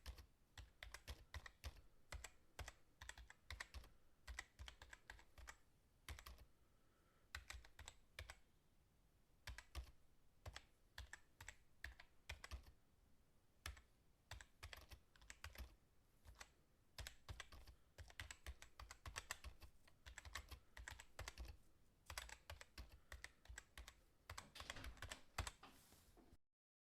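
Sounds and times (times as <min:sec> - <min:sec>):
fast typing on keyboard: 0:00.0 - 0:06.5, 0:07.3 - 0:08.4, 0:09.5 - 0:12.8, 0:13.6 - 0:25.6.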